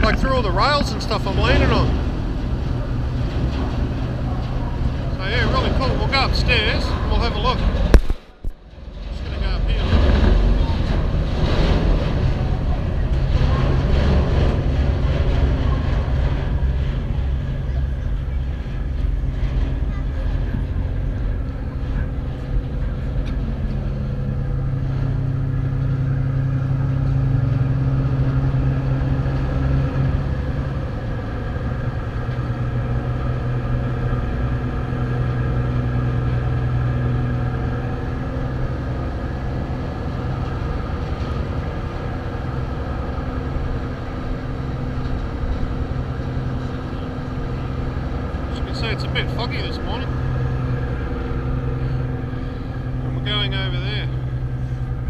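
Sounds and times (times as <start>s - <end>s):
ship engines humming: 0.0s - 55.0s.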